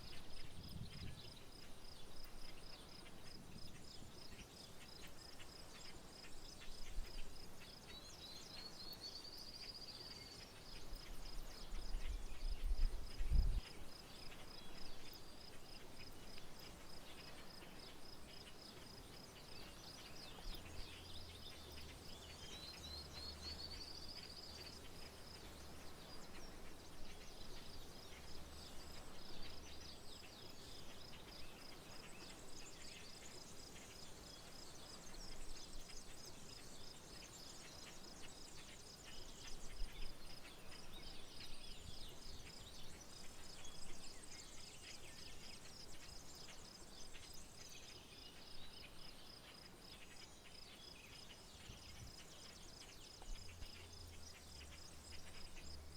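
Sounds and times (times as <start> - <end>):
insect chirping in pulsed rhythm: 0.0 - 55.9.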